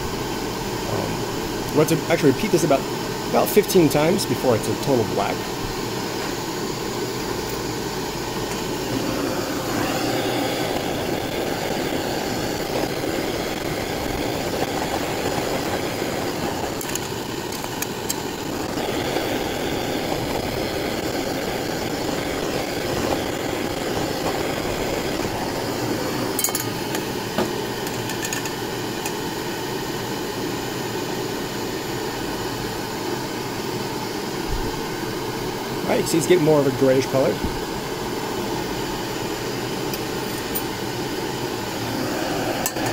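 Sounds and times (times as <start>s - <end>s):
gas torches hissing: 0.0s - 42.9s.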